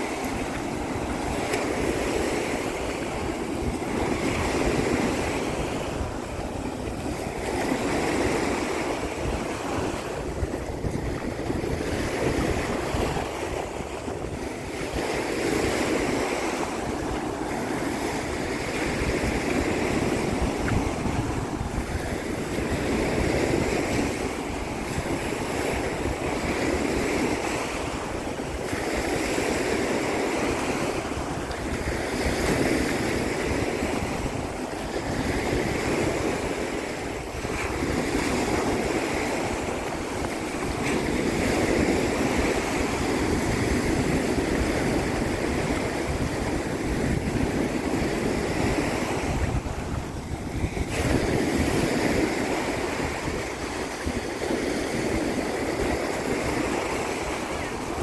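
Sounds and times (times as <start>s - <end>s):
waves washing onto beach: 0.0s - 58.0s
wind rumbling on microphone: 0.0s - 58.0s.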